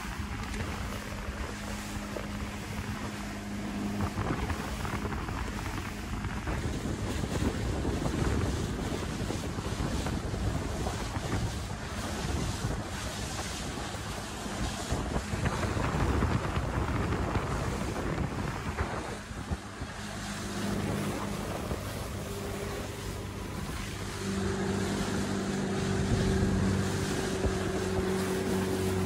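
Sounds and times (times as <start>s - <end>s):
boat engine hum: 0.0s - 29.0s
water rushing past hull: 0.0s - 29.0s
wind buffeting microphone: 0.0s - 29.0s.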